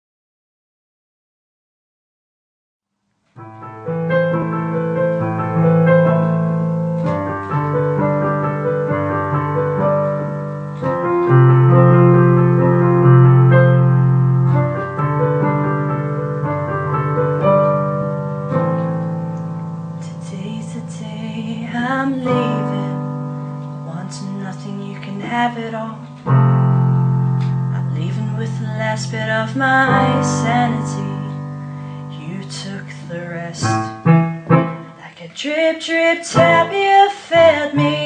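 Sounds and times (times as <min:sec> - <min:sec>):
piano playing slow chords: 0:03.4 - 0:35.1, 0:36.3 - 0:38.0.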